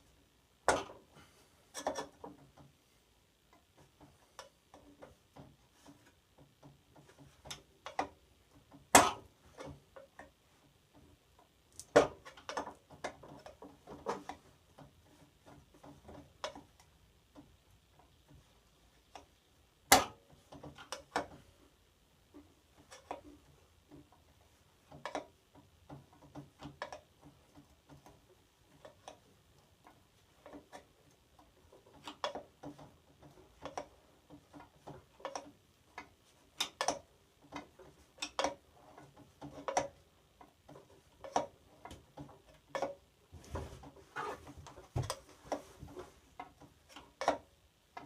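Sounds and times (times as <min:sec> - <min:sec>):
sharp clicks and knocks: 0:00.6 - 0:48.0.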